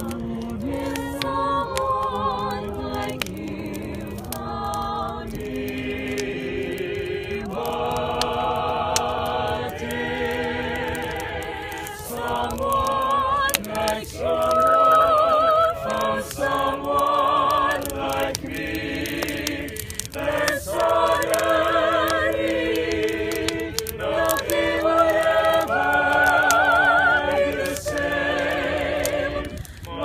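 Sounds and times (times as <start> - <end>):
voices singing in harmony: 0.0 - 30.0
wood fire crackling: 0.0 - 30.0.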